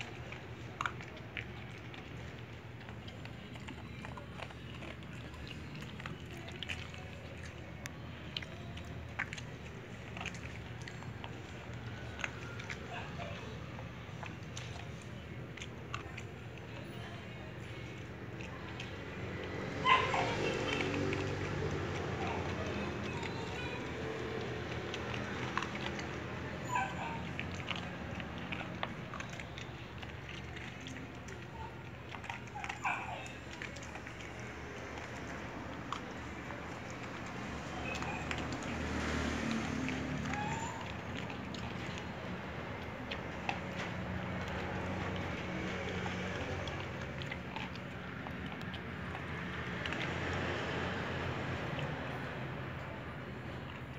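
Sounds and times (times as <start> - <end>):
dogs crunching dry kibble: 0.0 - 53.9.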